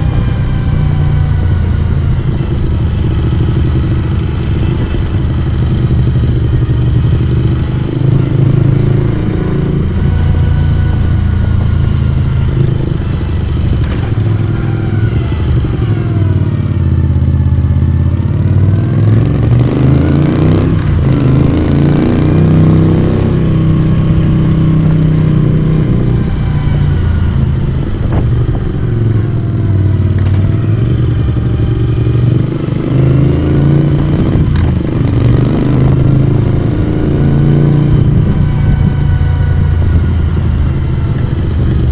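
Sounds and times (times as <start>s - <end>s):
motorcycle engine riding: 0.0s - 41.9s.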